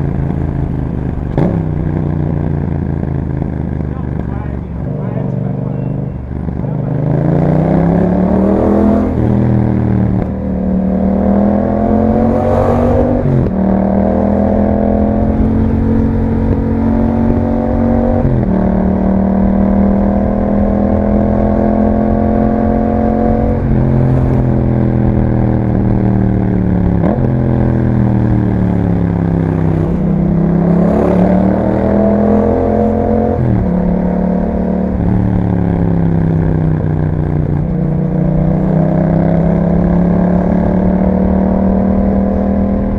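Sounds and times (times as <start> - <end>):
motorcycle engine revving while riding: 0.0 - 42.9.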